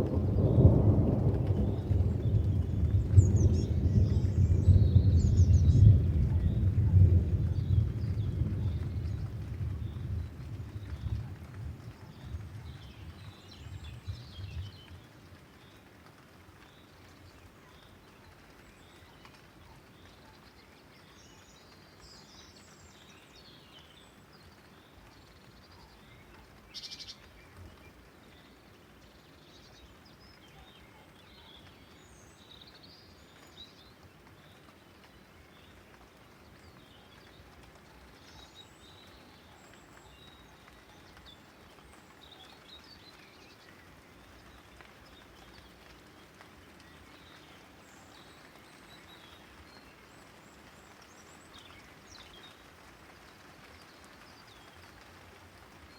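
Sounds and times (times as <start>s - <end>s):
light rain hiss: 0.0s - 55.9s.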